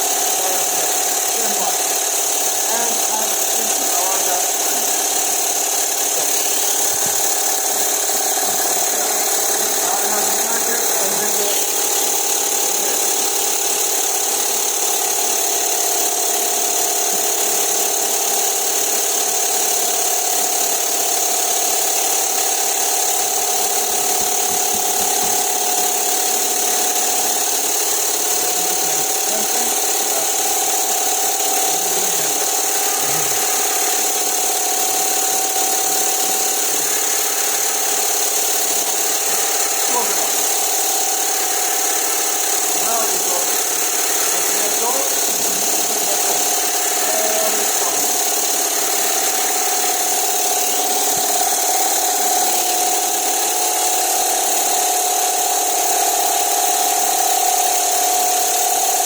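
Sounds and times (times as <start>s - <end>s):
machine humming with high hiss: 0.0s - 59.0s.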